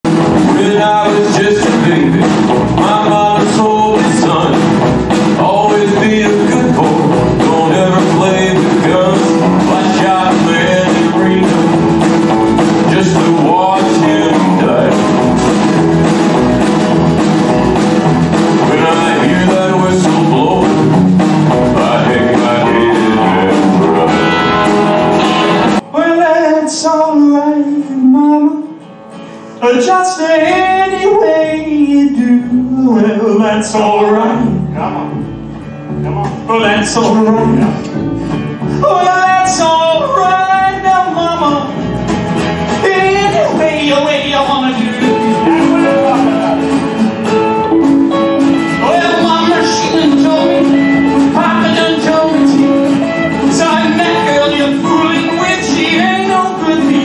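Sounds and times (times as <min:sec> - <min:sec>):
drum kit beat: 0:00.0 - 0:25.9, 0:33.8 - 0:57.0
guitars: 0:00.0 - 0:57.0
man singing: 0:00.1 - 0:15.9, 0:18.3 - 0:24.7, 0:25.5 - 0:28.8, 0:29.5 - 0:38.0, 0:38.6 - 0:42.0, 0:42.6 - 0:57.0
lone voice with guitar: 0:00.1 - 0:57.0.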